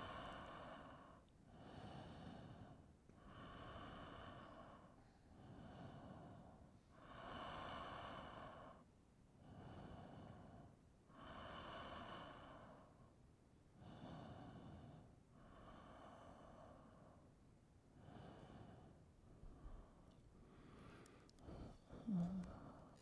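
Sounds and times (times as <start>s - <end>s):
slow breathing: 0.0s - 23.0s.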